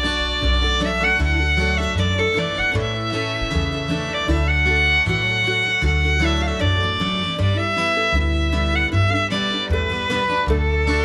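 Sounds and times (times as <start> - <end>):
low bass line: 0.0 - 11.0
violin melody: 0.0 - 11.0.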